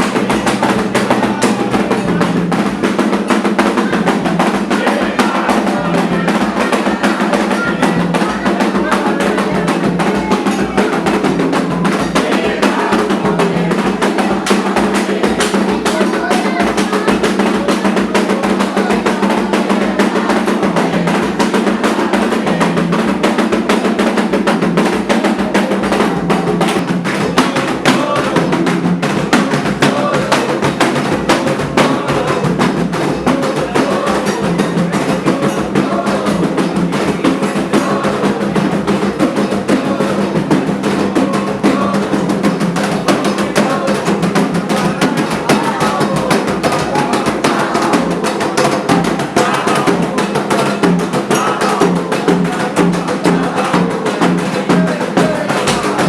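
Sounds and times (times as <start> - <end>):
hand drums playing fast: 0.0 - 56.0
voices singing a chant: 0.0 - 56.0.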